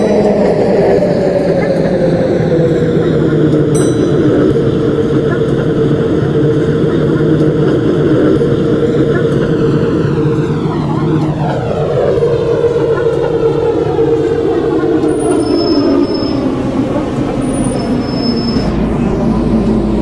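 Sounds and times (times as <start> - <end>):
train traction motor hum: 0.0 - 20.0
wheels rumbling on rail: 0.0 - 20.0.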